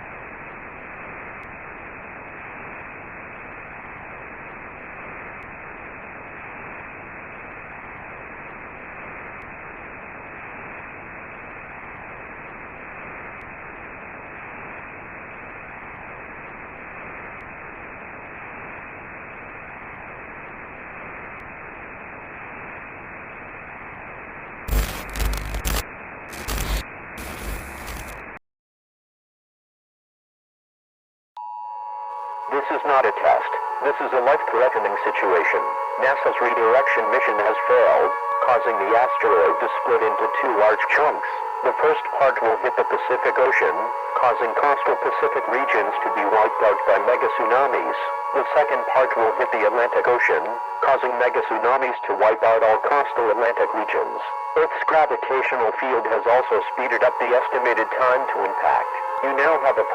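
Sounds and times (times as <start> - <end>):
distorted noise bursts: 0.0 - 28.4, 32.5 - 59.9
radio static hiss: 0.0 - 28.4, 32.5 - 59.9.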